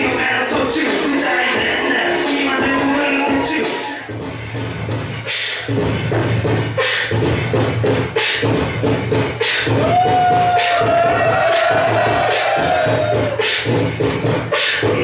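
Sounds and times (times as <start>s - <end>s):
hip-hop beat: 0.0s - 15.0s.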